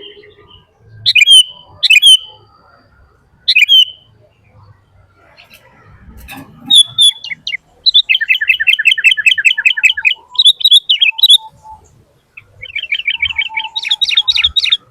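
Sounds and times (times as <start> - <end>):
bird chirping: 0.0 - 14.9.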